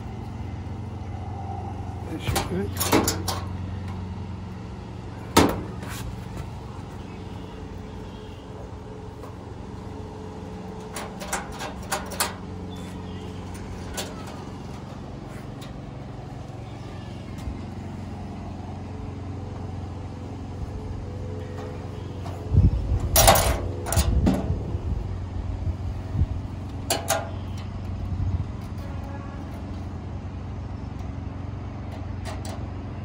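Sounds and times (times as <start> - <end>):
steady low mechanical hum: 0.0 - 33.0.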